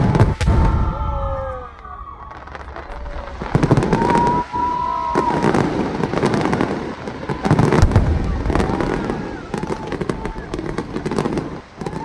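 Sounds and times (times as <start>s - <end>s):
fireworks booming: 0.0s - 12.0s
fireworks crackling: 0.0s - 12.0s
high firework whistle: 0.0s - 12.0s.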